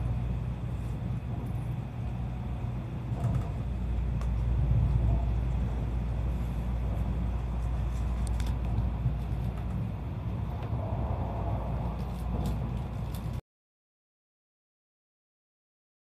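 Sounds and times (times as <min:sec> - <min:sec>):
train cabin low rumble: 0:00.0 - 0:13.4.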